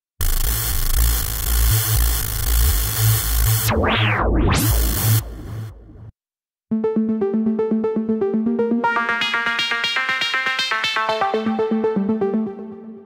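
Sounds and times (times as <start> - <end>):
noisy synthesizer pattern: 0.2 - 6.1, 6.7 - 13.0
fast bright synthesizer notes: 1.6 - 6.1, 6.7 - 13.0.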